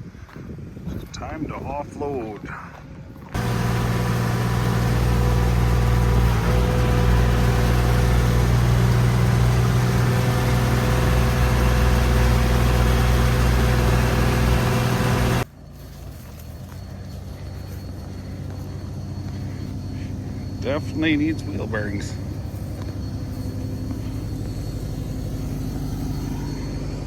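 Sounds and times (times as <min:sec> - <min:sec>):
vehicle engine running: 0:03.3 - 0:27.0.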